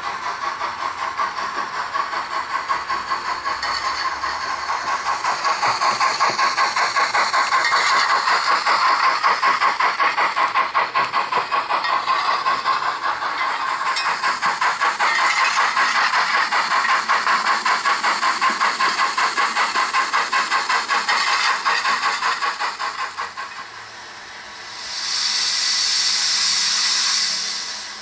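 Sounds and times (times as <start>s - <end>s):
model steam locomotive chuffing: 0.0s - 28.0s
steam hiss: 0.0s - 28.0s.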